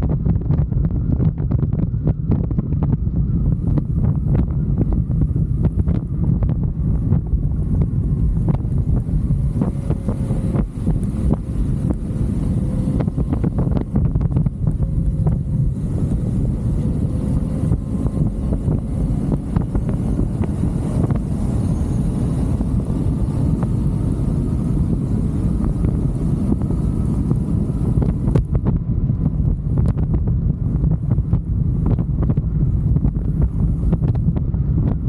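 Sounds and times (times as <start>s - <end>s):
road noise: 0.0s - 35.0s
wind buffeting on microphone: 0.0s - 35.0s
motorcycle engine: 3.2s - 34.8s.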